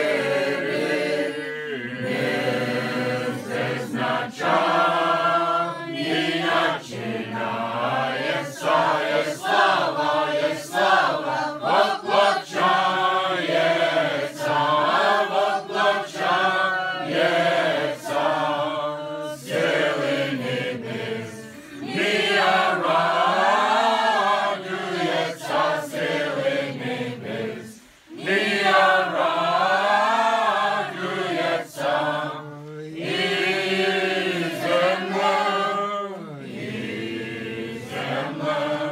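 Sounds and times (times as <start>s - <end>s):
group singing a carol: 0.0s - 38.9s.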